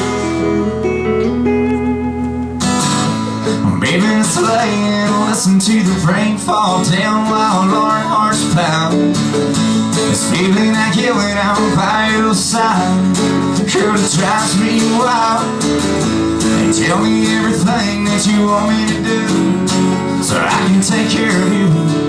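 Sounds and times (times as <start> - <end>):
acoustic guitar strumming: 0.0 - 22.0
man singing: 3.4 - 22.0.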